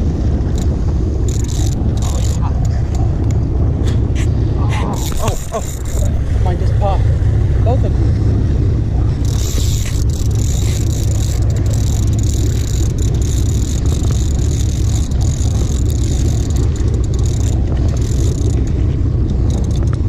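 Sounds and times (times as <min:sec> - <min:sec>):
boat engines droning: 0:00.0 - 0:20.0
wind and water hiss: 0:00.0 - 0:20.0.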